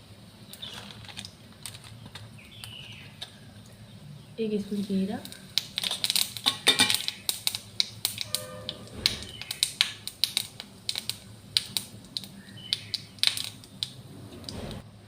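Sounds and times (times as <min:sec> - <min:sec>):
seeds popping in hot oil: 0:00.0 - 0:14.8
oil sizzling: 0:00.0 - 0:15.0.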